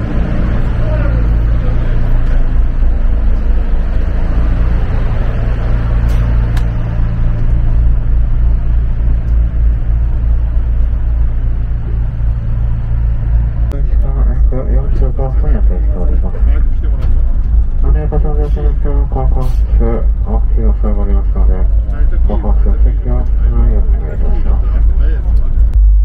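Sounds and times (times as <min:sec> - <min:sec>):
boat engines droning: 0:00.0 - 0:25.8.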